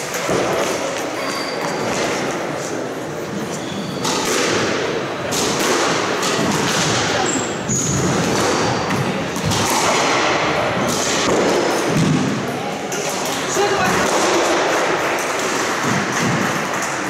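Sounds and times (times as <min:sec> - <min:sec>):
squash ball hitting rackets and walls: 0:00.0 - 0:17.0.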